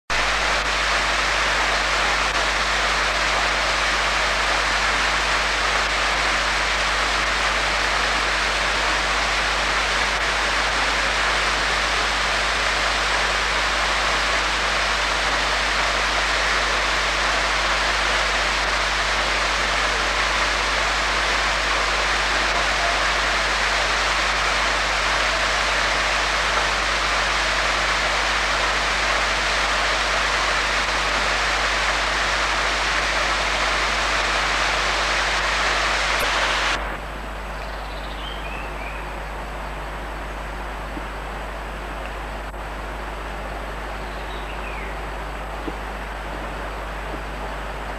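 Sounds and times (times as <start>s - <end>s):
waterfall rushing water: 0.1s - 37.4s, 38.1s - 47.9s.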